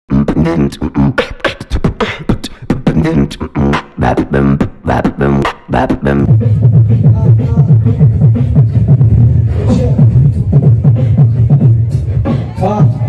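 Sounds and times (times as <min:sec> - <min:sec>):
beatboxing into a microphone: 0:00.1 - 0:13.0.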